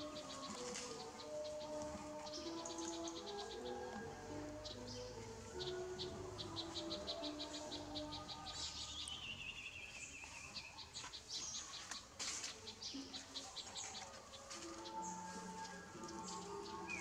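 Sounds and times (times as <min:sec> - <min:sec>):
birdsong: 0:00.0 - 0:17.0.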